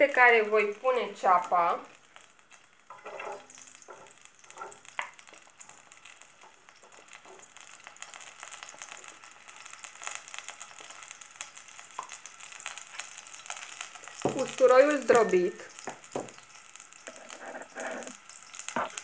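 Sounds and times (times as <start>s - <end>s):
onion sizzling in oil: 0.0s - 19.0s.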